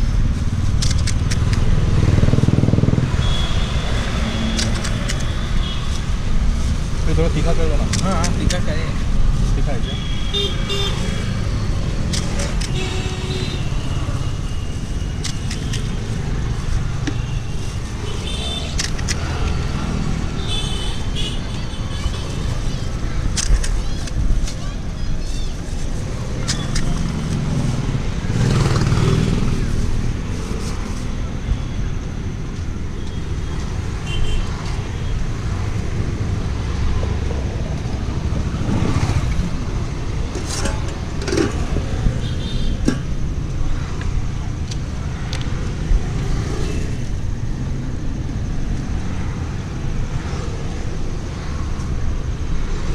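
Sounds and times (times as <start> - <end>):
road traffic rumble: 0.0 - 52.9.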